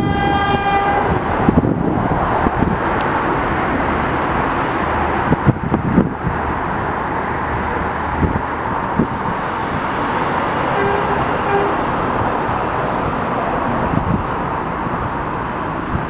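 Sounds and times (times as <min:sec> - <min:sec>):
outdoor city noise: 0:00.0 - 0:16.0
subway train wheels rumbling: 0:00.0 - 0:16.0.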